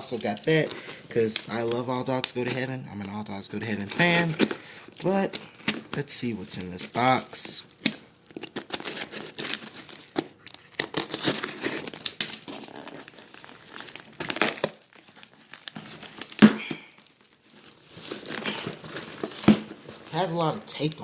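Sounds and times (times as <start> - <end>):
packaging crinkling: 0.0 - 21.0
tape tearing: 0.0 - 21.0.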